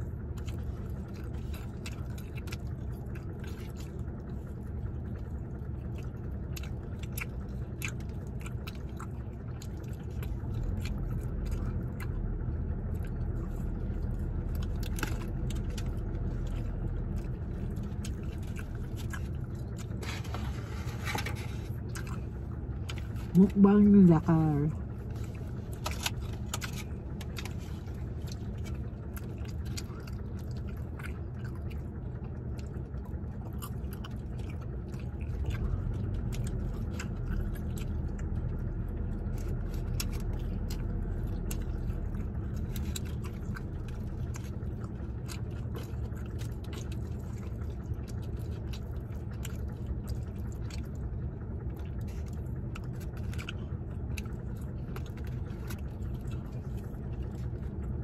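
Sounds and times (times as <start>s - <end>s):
car interior rumble: 0.0s - 58.0s
chewing and crunching: 0.0s - 58.0s.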